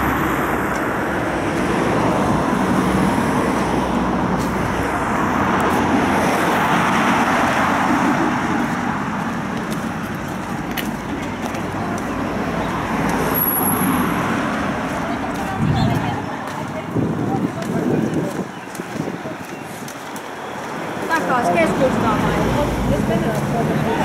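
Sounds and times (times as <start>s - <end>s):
cars passing on street: 0.0s - 24.0s.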